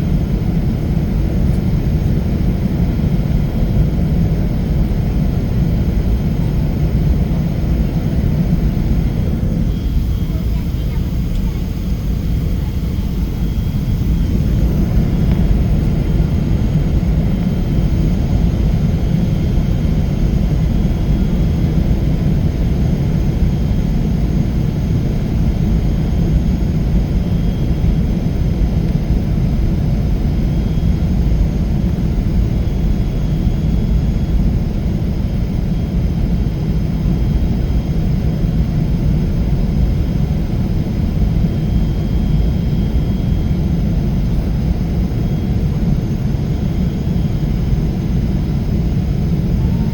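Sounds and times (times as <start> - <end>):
jet engine cabin rumble: 0.0 - 49.9.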